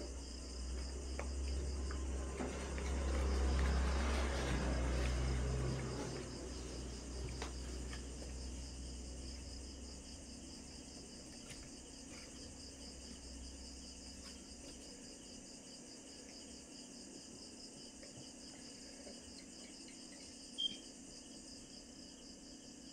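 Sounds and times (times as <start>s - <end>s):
cricket chirping: 0.0s - 22.9s.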